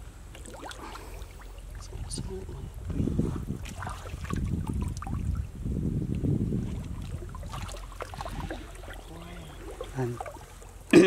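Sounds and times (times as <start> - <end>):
pond water sloshing and splashing: 0.0 - 5.6, 6.4 - 11.0
low rumble: 1.1 - 10.9.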